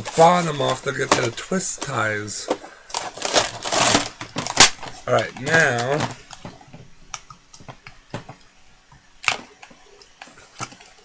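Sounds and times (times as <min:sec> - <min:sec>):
plastic packaging clicking and snapping: 0:00.0 - 0:11.0.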